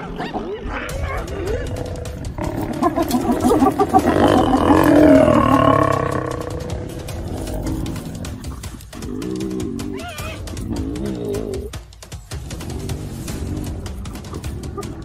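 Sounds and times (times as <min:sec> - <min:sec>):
lion growling: 0:00.0 - 0:11.8, 0:12.4 - 0:15.0.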